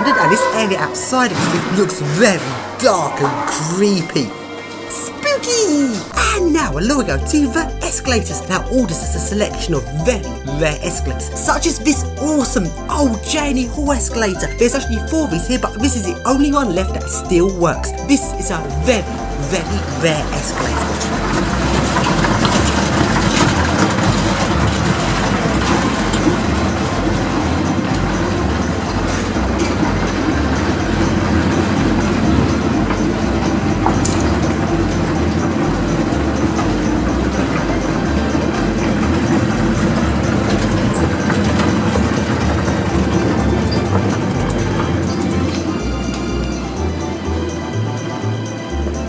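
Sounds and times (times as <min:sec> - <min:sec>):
escalator rumbling: 0:00.0 - 0:49.0.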